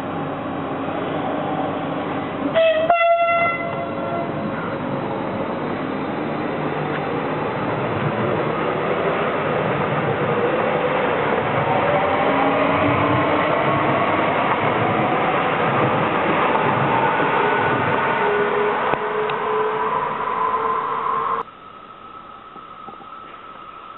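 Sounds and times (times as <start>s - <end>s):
wheels rushing on rail: 0.0s - 23.9s
electric traction whine: 4.4s - 23.9s.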